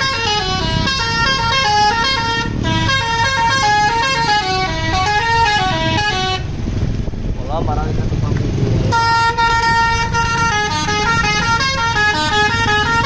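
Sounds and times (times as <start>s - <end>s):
bus musical horn tune: 0.0s - 6.6s, 8.9s - 13.0s
engine and street rumble: 0.0s - 13.0s.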